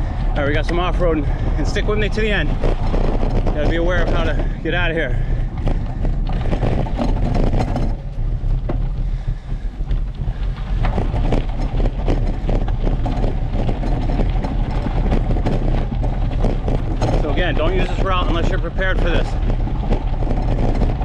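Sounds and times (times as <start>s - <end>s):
bicycle rattling on gravel trail: 0.0s - 21.0s
wind on microphone: 0.0s - 21.0s.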